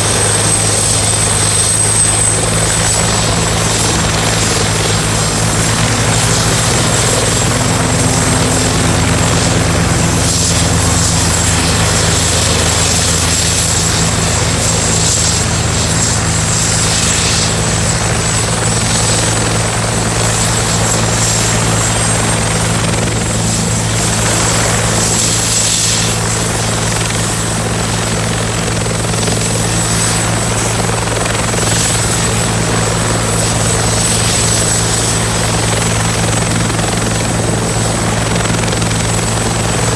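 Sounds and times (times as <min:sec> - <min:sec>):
helicopter rotor drone: 0:00.0 - 0:39.9
helicopter turbine whining: 0:00.0 - 0:39.9.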